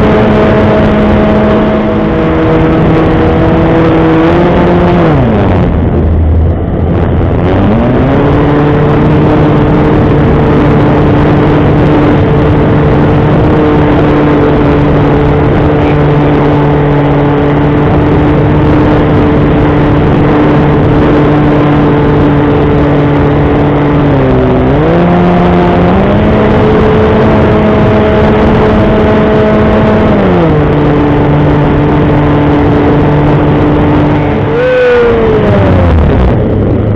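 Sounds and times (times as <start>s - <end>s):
electric motor and propeller whining: 0.0s - 36.9s
rush of wind: 0.0s - 36.9s.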